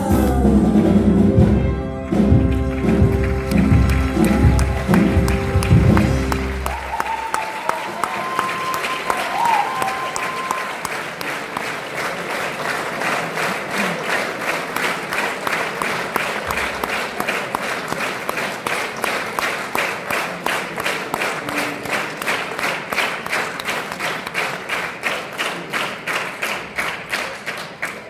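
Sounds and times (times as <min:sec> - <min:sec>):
audience clapping in unison: 0:02.1 - 0:28.0.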